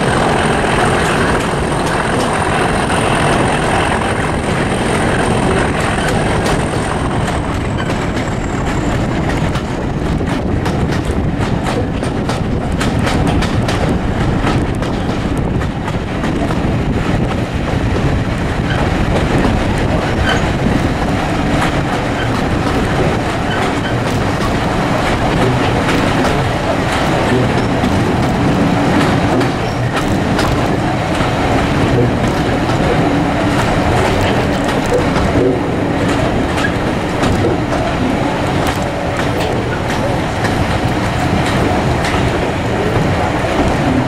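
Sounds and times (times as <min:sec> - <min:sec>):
train coaches rumbling: 0:00.0 - 0:44.0
wheels clicking over rail joints: 0:00.0 - 0:44.0.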